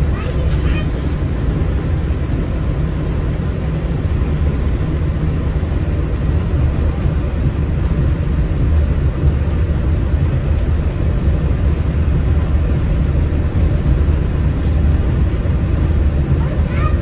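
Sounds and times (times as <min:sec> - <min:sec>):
monorail low rumble: 0:00.0 - 0:17.0.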